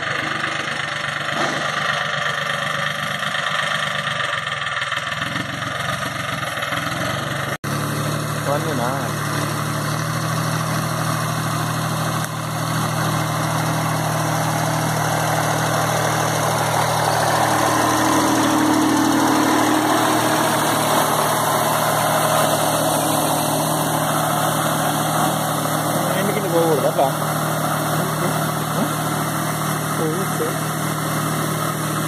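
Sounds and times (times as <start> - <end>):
small diesel engine running: 0.0 - 32.0.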